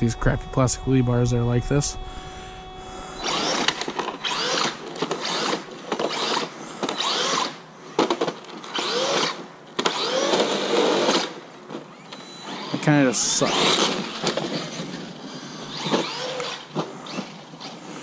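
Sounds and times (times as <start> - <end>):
electric motor whining: 0.0 - 7.6, 8.6 - 18.0.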